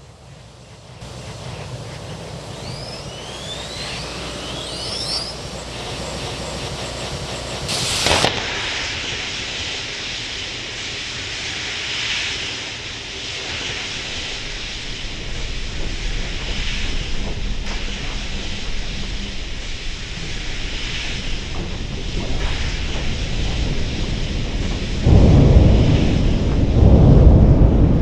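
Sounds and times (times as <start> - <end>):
low hiss with whistling glides: 0.0 - 26.5
rocket engine rushing roar: 0.8 - 28.0
rocket engine ignition blast: 2.5 - 28.0.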